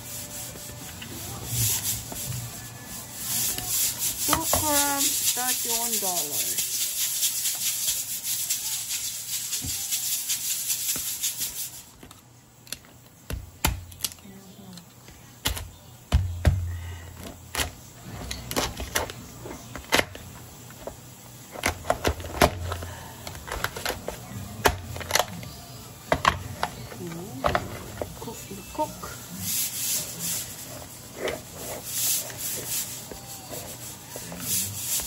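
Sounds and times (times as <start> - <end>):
loud steady crackling hiss: 0.0 - 14.8, 17.4 - 35.0.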